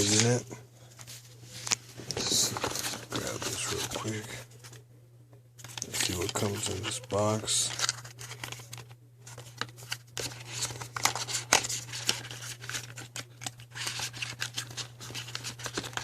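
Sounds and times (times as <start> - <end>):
packaging clicks and rustles: 0.0 - 0.4, 1.1 - 4.8, 5.6 - 16.0.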